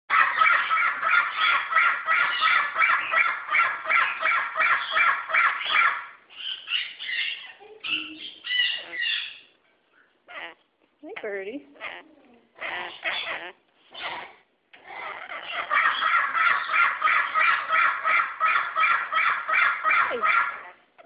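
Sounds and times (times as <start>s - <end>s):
parrots squawking: 0.1s - 21.0s.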